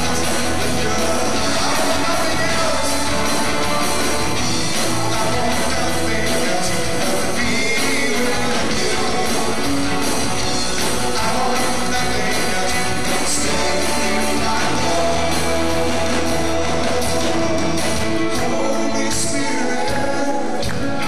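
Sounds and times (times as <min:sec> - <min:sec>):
drums: 0:00.0 - 0:21.0
keyboard: 0:00.0 - 0:21.0
male and female voices singing: 0:00.0 - 0:21.0.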